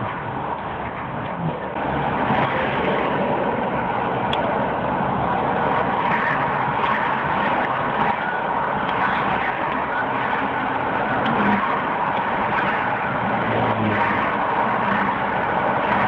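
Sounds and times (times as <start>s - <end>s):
car driving road and engine noise: 0.0s - 16.0s.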